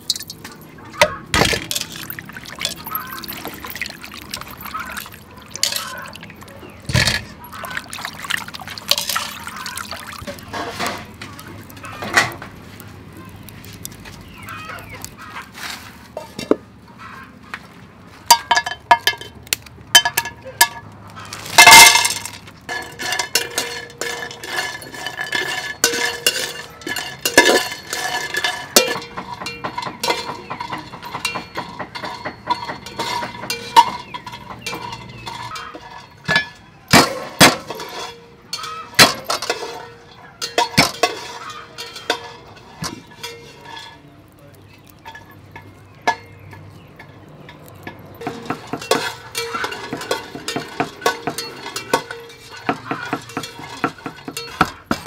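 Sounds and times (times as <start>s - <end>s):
metal ladle clinking on cooking pot: 0.0s - 12.5s, 21.6s - 55.0s.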